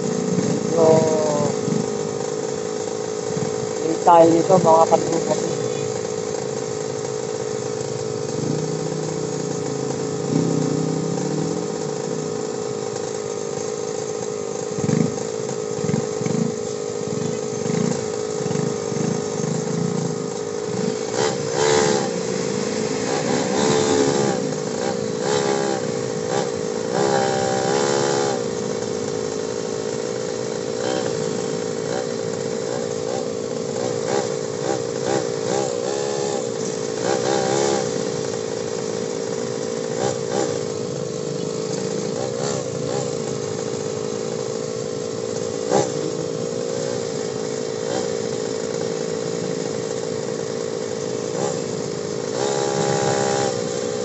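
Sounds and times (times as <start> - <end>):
high wavering whine: 0.0 - 54.0
motorcycle engines in traffic: 0.0 - 54.0.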